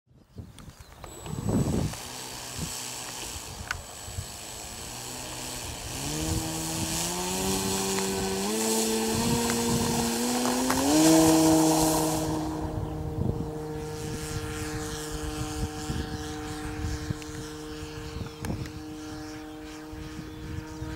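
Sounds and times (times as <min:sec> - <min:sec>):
model plane electric motor hum: 0:00.3 - 0:20.9.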